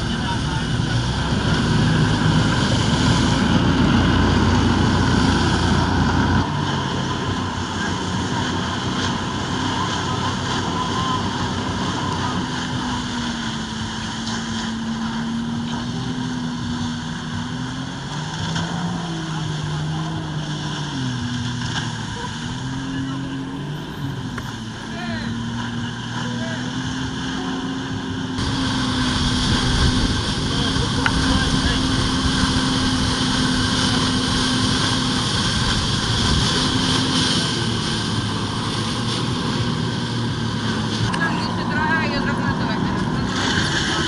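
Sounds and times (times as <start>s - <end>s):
loud low rumble: 0.0s - 44.0s
watercraft engine running: 0.0s - 44.0s.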